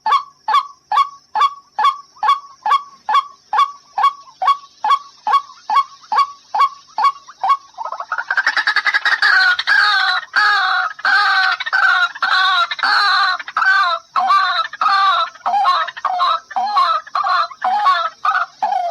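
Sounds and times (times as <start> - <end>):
waterhen calling: 0.0 - 18.9.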